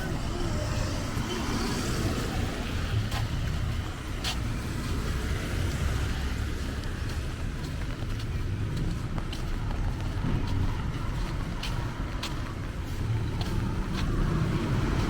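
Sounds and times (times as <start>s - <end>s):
steady road hum: 0.0s - 15.0s
vehicle engines running: 0.0s - 15.0s.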